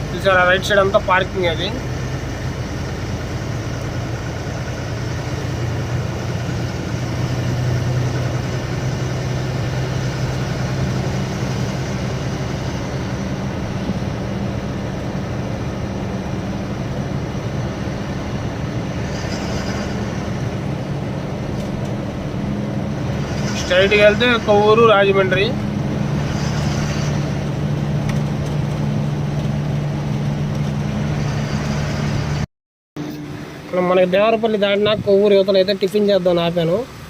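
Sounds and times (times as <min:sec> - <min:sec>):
diesel engine droning: 0:00.0 - 0:37.0
road noise: 0:00.0 - 0:37.0.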